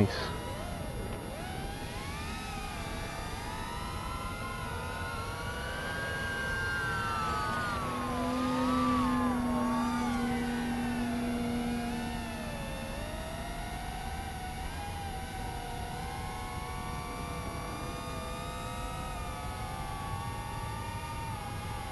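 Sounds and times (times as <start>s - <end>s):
drone motors whining: 0.0s - 21.9s
steady low hum: 0.0s - 21.9s.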